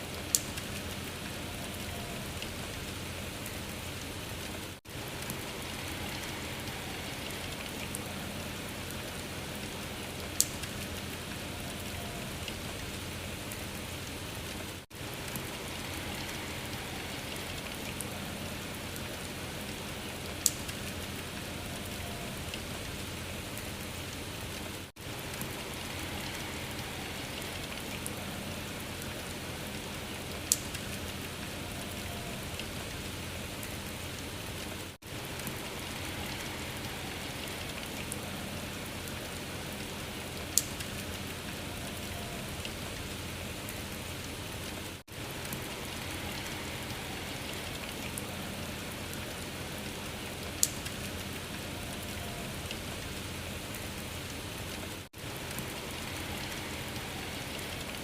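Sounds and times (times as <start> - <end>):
rain patter: 0.0 - 58.0.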